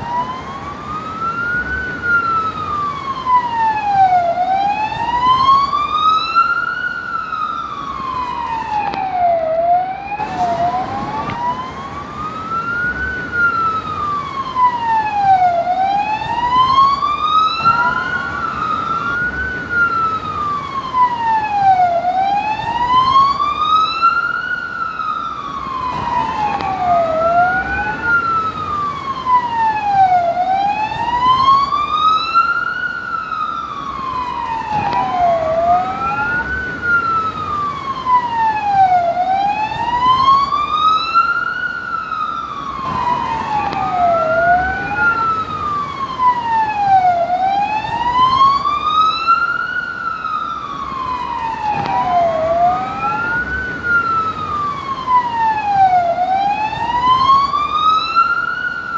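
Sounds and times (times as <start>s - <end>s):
police siren wailing: 0.0s - 58.9s.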